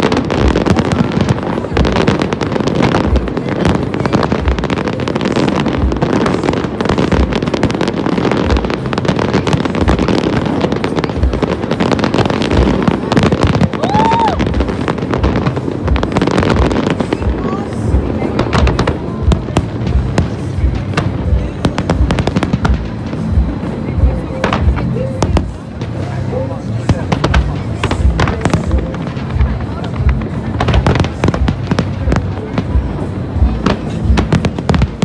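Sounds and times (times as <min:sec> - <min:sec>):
deep firework thuds: 0:00.0 - 0:35.0
fireworks crackling and banging: 0:00.0 - 0:35.0.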